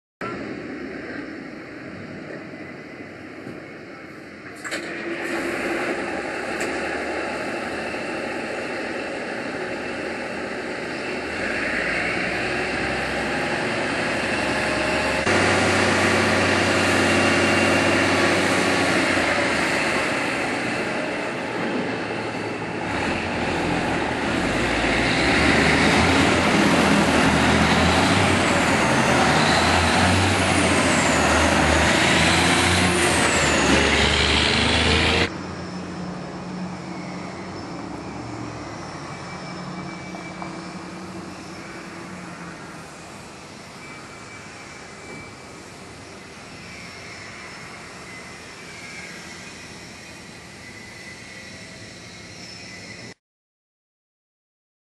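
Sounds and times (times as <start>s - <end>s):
truck diesel engines running: 0.2s - 53.2s.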